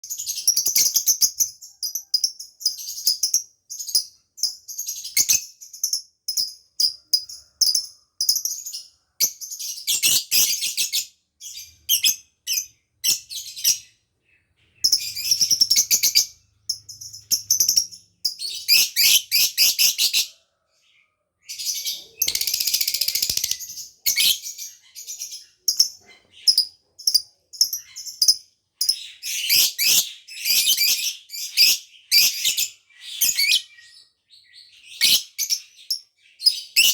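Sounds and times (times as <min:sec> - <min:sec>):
lovebird chirping and chattering: 0:00.0 - 0:36.9.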